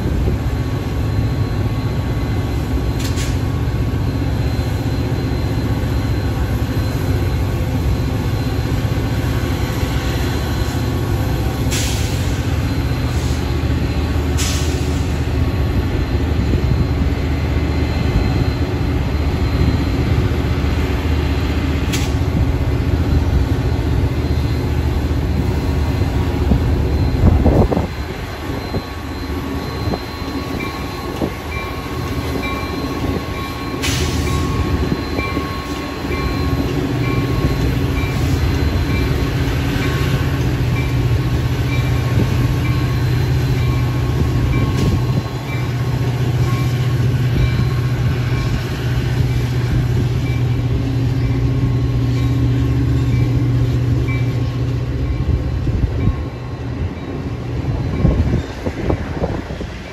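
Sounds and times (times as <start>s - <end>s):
locomotive engine drone: 0.0s - 59.9s
train wheels rumbling on rails: 0.0s - 59.9s.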